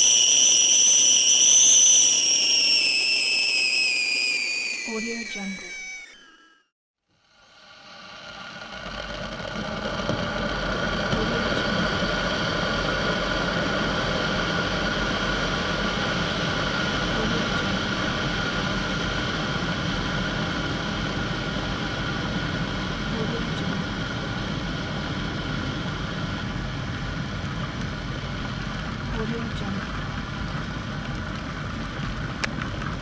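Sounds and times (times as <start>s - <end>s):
kettle rumbling hiss: 0.0s - 5.0s, 7.2s - 33.0s.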